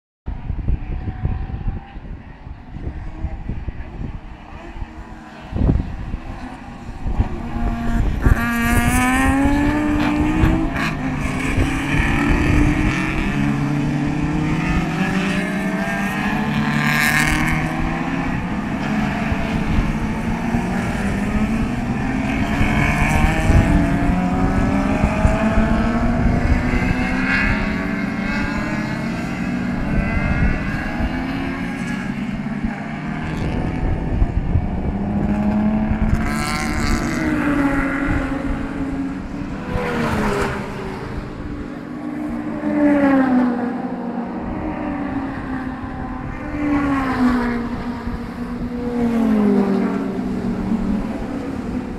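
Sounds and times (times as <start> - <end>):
race car engines accelerating: 0.3 - 51.9.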